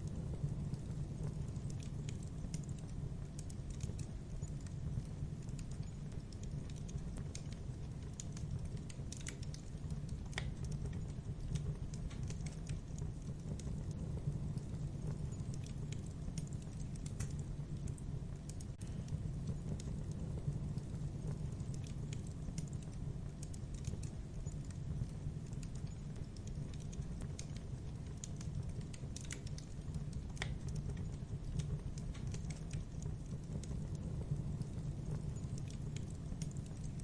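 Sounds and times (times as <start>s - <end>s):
logs crackling and popping: 0.0s - 37.0s
low rumble of fire: 0.0s - 37.0s.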